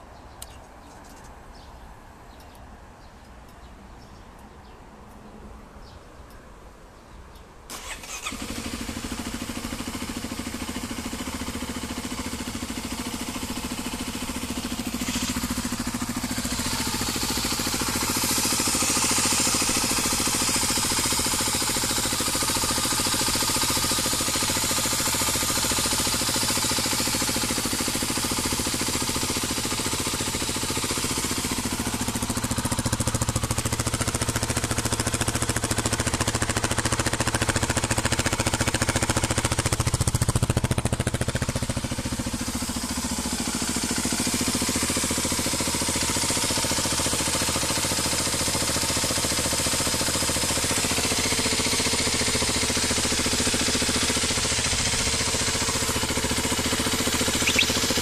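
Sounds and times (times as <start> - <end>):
dirt bike engine idling: 7.8 - 58.0.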